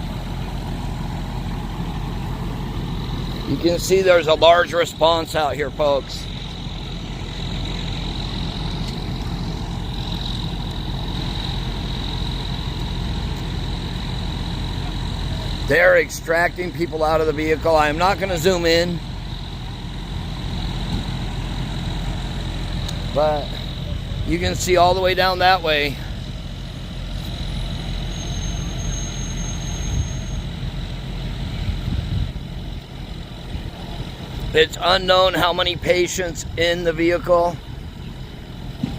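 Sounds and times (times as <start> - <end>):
vehicle engines idling: 0.0 - 38.9.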